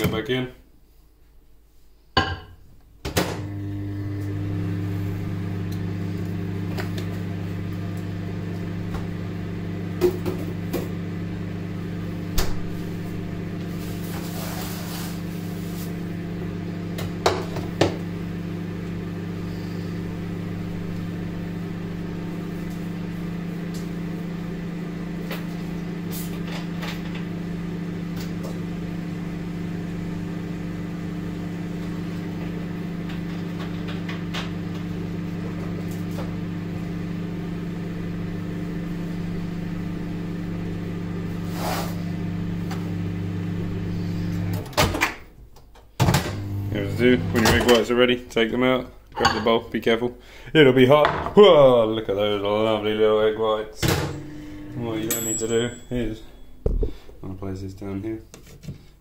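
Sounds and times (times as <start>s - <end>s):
microwave humming: 2.2s - 57.6s.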